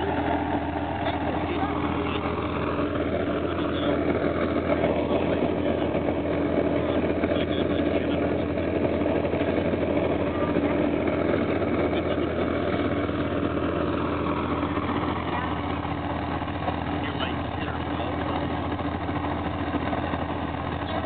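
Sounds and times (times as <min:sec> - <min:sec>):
snowcat engine droning: 0:00.0 - 0:21.0.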